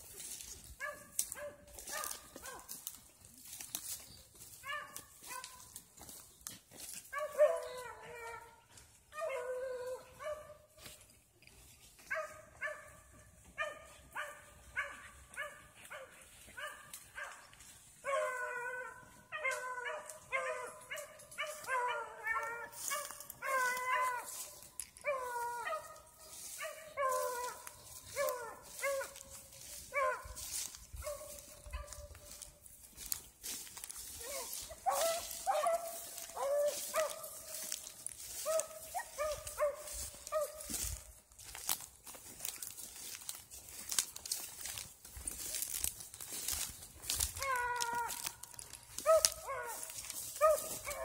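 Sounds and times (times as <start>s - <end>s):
dogs barking: 0.2s - 6.2s, 6.8s - 11.0s, 12.0s - 51.0s.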